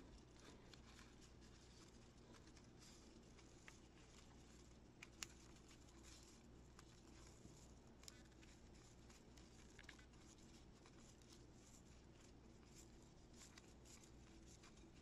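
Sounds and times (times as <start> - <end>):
low room hum: 0.0 - 15.0
paper rustling and ticking: 0.0 - 15.0.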